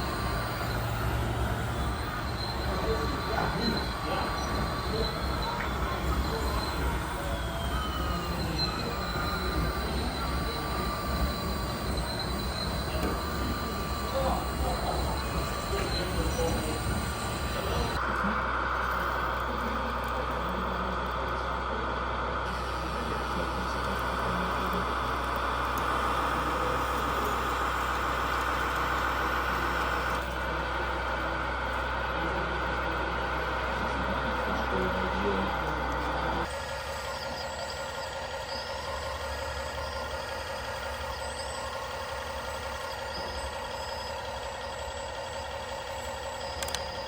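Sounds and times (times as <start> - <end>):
electric motors whining: 0.0 - 47.0.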